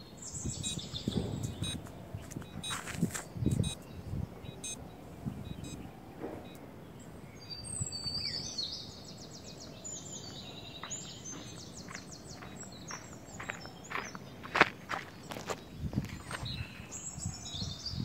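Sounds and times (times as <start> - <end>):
low outdoor noise: 0.0 - 18.0
small birds chirping: 0.0 - 18.0.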